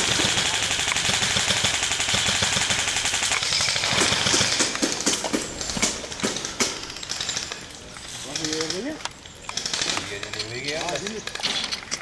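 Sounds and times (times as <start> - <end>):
airsoft guns firing: 0.0 - 7.7, 8.4 - 11.4.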